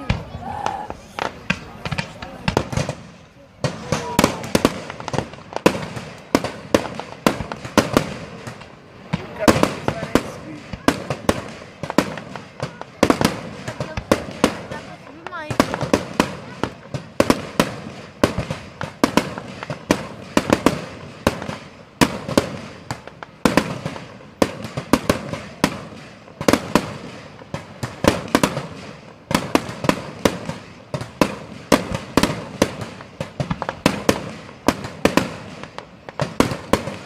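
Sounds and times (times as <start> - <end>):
fireworks bangs: 0.0 - 37.0
fireworks crackling: 0.0 - 37.0.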